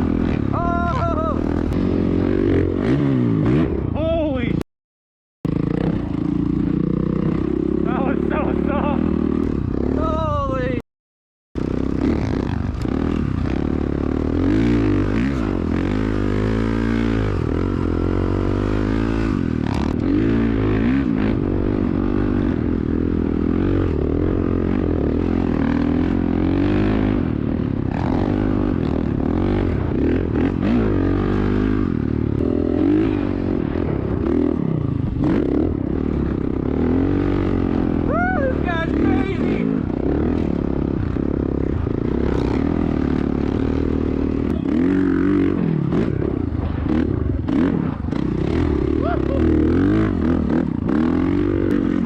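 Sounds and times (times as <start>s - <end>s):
dirt bike engine revving: 0.0s - 4.6s, 5.5s - 10.8s, 11.6s - 52.0s.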